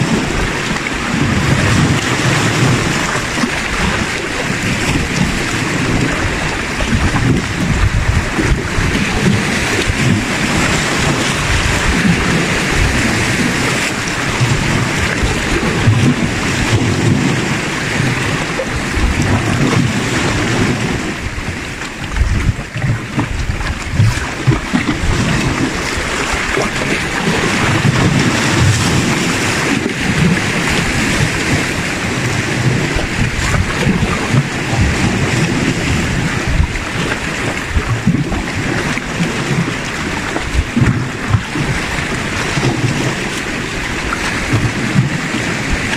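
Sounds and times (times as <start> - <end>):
sea waves washing against rocks: 0.0 - 45.9
wind buffeting microphone: 0.0 - 45.9.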